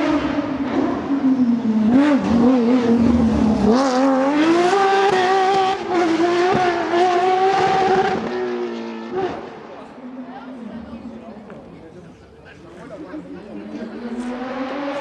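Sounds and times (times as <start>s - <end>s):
rally car engine revving: 0.0s - 11.4s, 13.2s - 15.0s.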